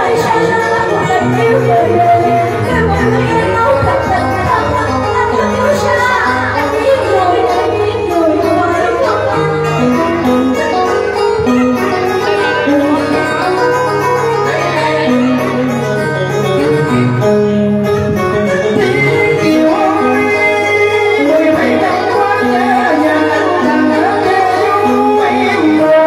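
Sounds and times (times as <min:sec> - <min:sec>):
live band instrumental: 0:00.0 - 0:26.0.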